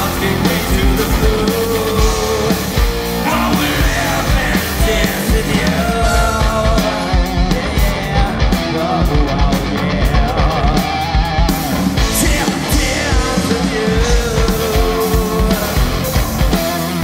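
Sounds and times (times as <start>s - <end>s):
bass guitar: 0.0s - 17.0s
drum kit beat: 0.0s - 17.0s
electric guitars: 0.0s - 17.0s.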